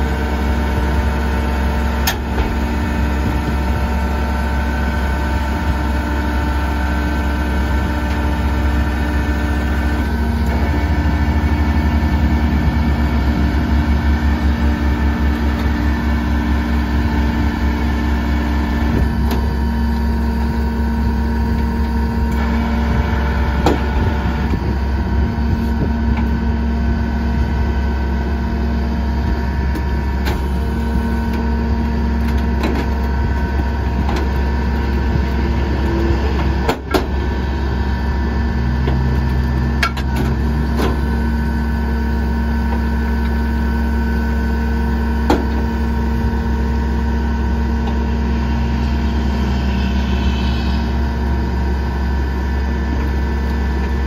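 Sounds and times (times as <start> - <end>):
garbage truck engine and hydraulics: 0.0 - 54.0.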